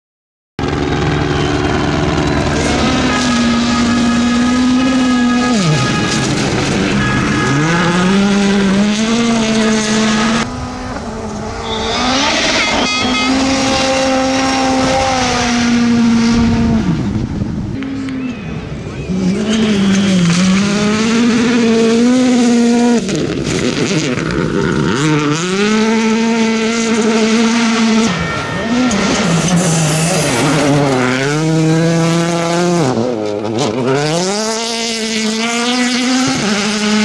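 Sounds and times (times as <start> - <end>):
rally car engine at high revs: 0.6 - 37.0.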